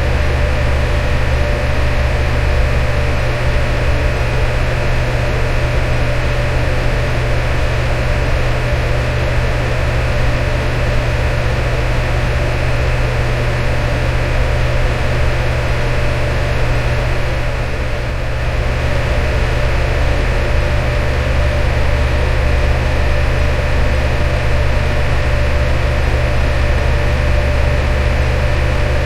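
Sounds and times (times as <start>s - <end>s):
electric fan running: 0.0s - 29.0s.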